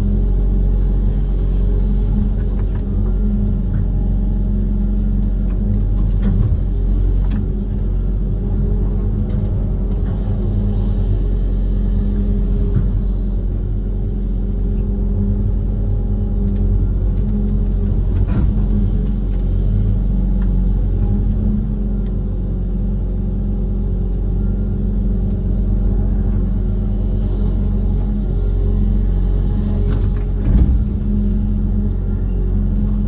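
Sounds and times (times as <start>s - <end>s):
diesel engine rumbling: 0.0s - 33.0s.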